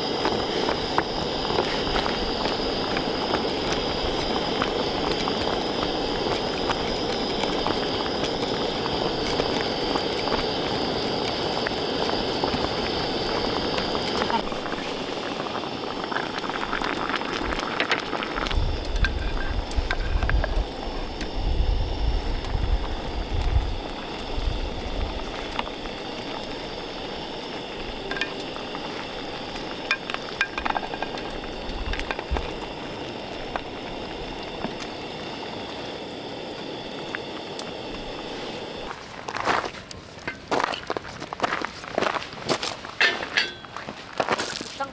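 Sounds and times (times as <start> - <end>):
water boiling in a pot: 0.0 - 44.9.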